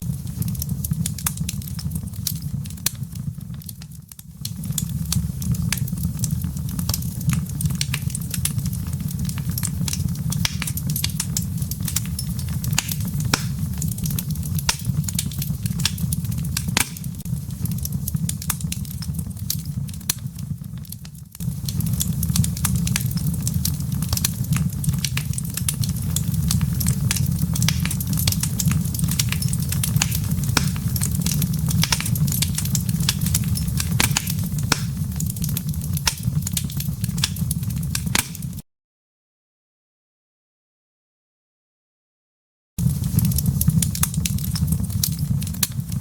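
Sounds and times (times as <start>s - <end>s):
wood fire crackling: 0.0s - 38.6s, 42.8s - 46.0s.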